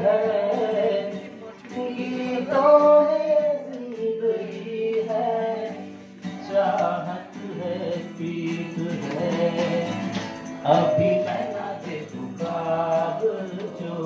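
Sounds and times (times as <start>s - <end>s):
man singing: 0.0s - 14.0s
strummed acoustic guitar: 0.0s - 14.0s.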